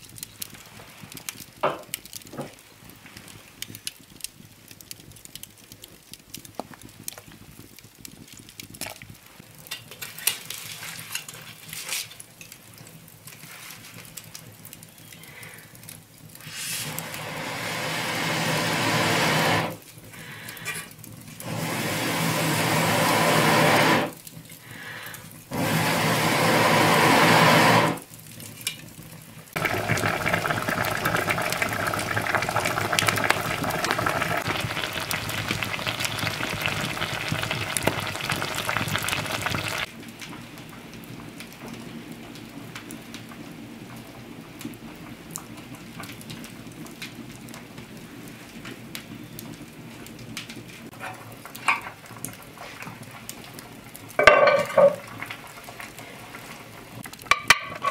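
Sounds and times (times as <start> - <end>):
wood fire crackling and hissing: 0.0 - 57.9.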